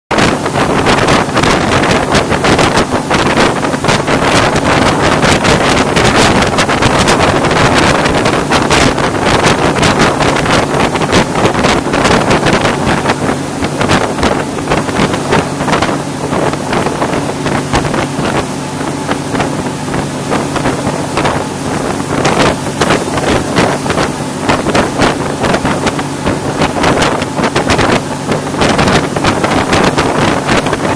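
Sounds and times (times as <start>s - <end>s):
motorboat engine running: 0.1s - 30.9s
wind buffeting microphone: 0.1s - 30.9s.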